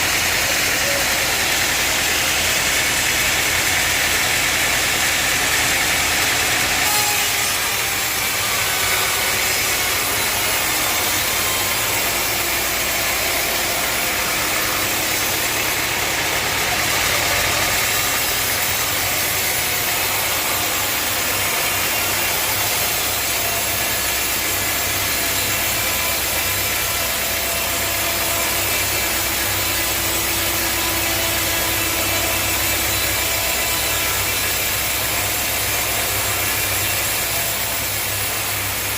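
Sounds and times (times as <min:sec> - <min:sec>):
mill engine running: 0:00.0 - 0:38.9
saw cutting through log: 0:00.0 - 0:38.9.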